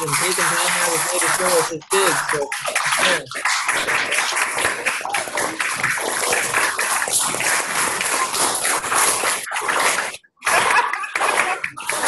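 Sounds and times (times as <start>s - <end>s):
children clapping: 0.0s - 12.0s.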